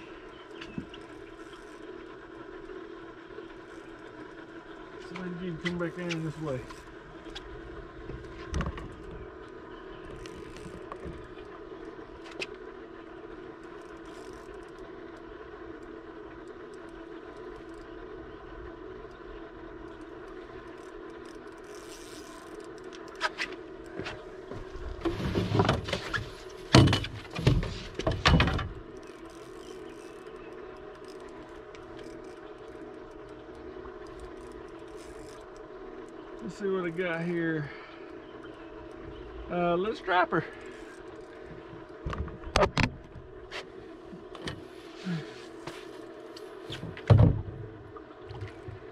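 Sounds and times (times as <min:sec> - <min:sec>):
boat motor humming: 0:00.0 - 0:48.9.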